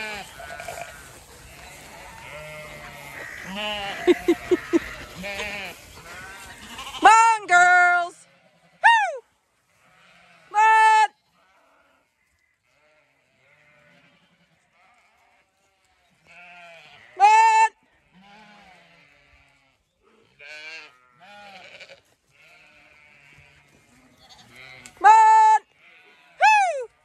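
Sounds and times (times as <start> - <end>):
faint flock bleating: 0.0 - 9.0, 9.6 - 27.0
sheep bleating: 0.0 - 9.0, 9.6 - 27.0.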